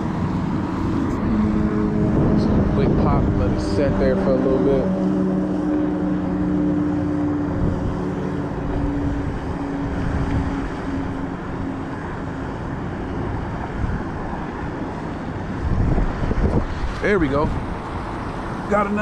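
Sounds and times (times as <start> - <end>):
wind rumble on microphone: 0.0 - 18.7
distant engine droning: 0.0 - 19.0.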